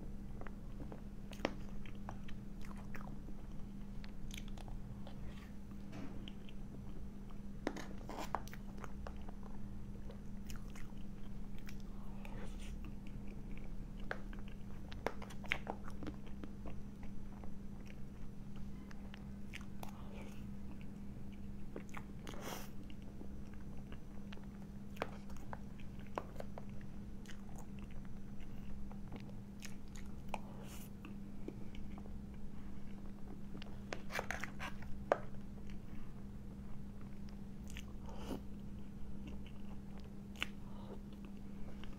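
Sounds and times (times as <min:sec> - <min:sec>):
soft chewing and biting: 0:00.2 - 0:41.9.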